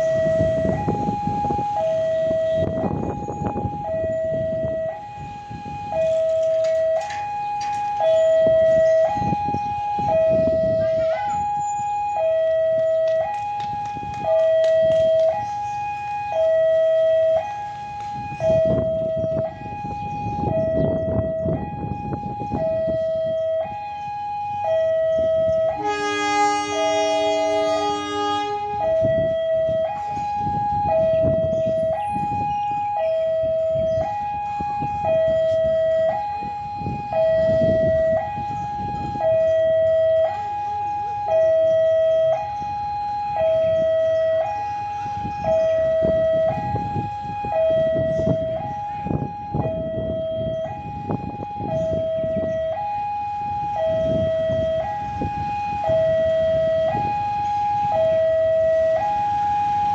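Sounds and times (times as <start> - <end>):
two-tone siren: 0.0 - 59.9.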